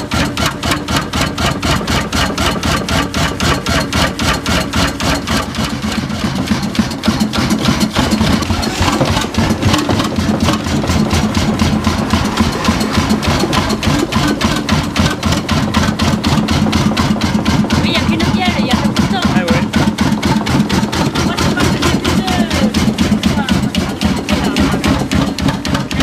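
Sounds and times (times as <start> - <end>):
old engine running steadily: 0.0 - 26.0.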